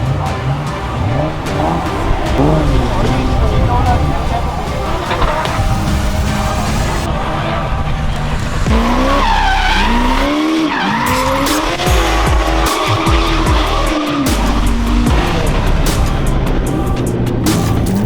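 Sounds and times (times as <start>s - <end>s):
car engine running low: 0.0s - 18.0s
tyres squealing: 0.0s - 18.0s.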